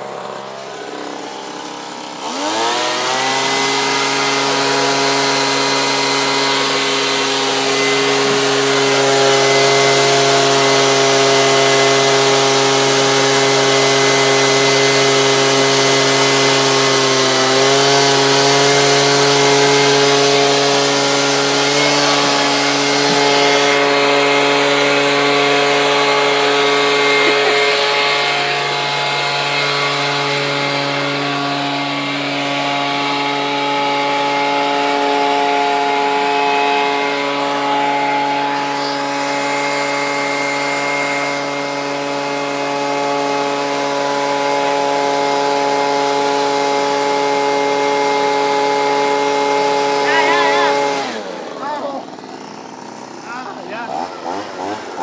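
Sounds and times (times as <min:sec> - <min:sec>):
leaf blower engine droning: 0:00.0 - 0:55.0.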